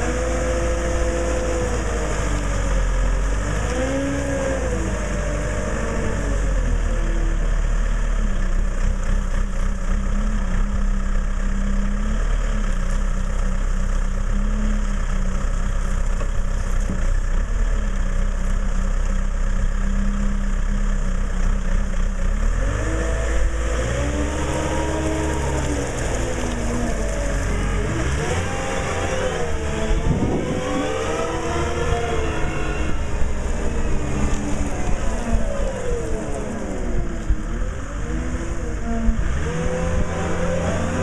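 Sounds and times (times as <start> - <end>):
diesel engine running and revving: 0.0 - 41.0.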